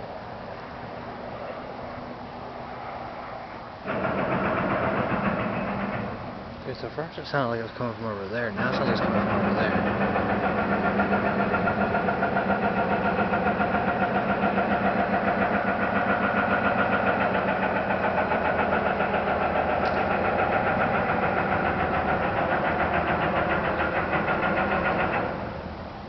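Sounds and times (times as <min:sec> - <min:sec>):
throbbing droning rumble: 0:03.8 - 0:26.0.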